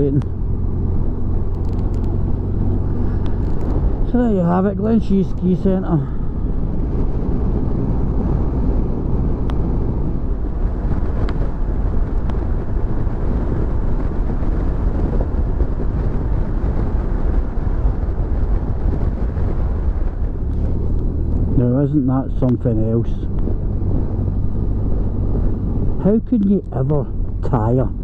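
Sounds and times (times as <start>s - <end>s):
motorcycle engine and wind rumble: 0.0s - 28.0s.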